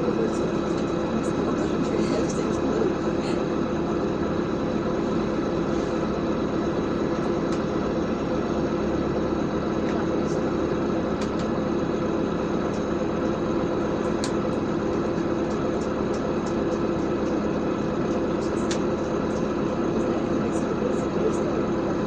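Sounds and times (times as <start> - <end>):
bus engine and road hum: 0.0 - 22.0.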